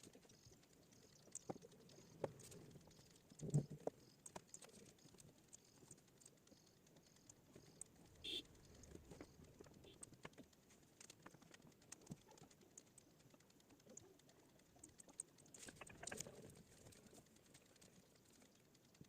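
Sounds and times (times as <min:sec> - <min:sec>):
faint clicks and taps: 0:00.0 - 0:19.0.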